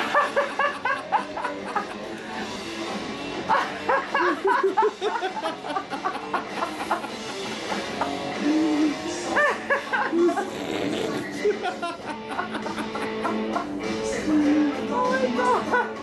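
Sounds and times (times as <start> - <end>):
lively background music: 0.0 - 16.0.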